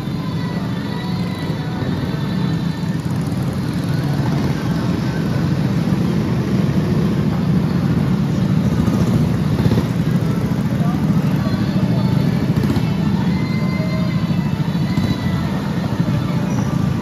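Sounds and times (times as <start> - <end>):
go-kart engines passing: 0.0 - 17.0.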